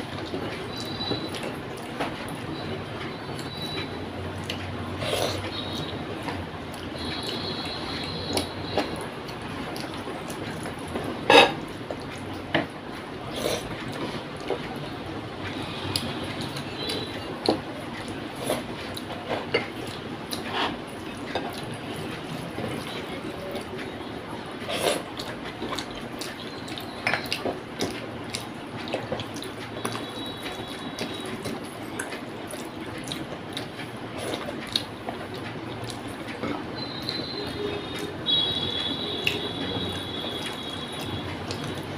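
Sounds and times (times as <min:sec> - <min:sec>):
wet chewing sounds: 0:00.0 - 0:41.9.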